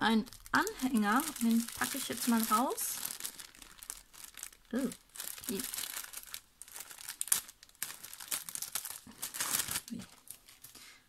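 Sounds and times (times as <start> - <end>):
plastic bag crinkling: 0.1 - 10.8.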